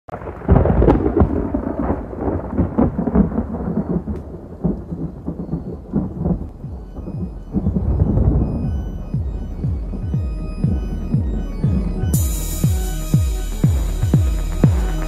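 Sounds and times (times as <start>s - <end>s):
rumbling thunder: 0.1s - 15.0s
sharp thunder cracks: 0.1s - 15.0s.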